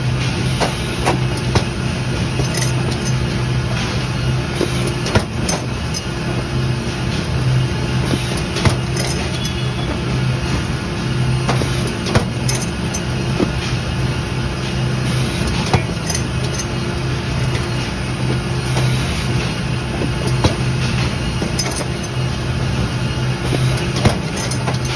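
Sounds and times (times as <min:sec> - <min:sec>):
machine hum: 0:00.0 - 0:24.9.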